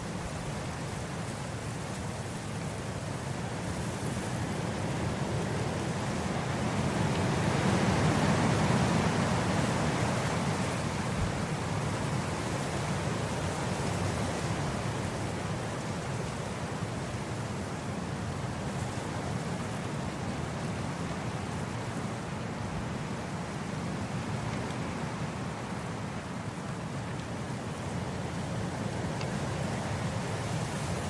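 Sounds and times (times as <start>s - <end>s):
wind blowing across grass: 0.0s - 31.0s.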